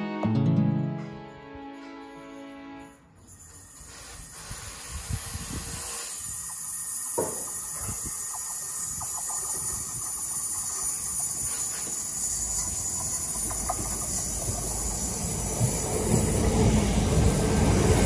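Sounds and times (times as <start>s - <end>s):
train rumbling: 3.3s - 18.0s.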